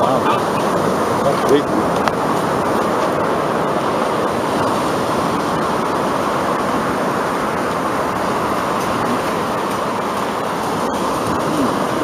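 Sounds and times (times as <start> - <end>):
ocean surf washing ashore: 0.0 - 12.0.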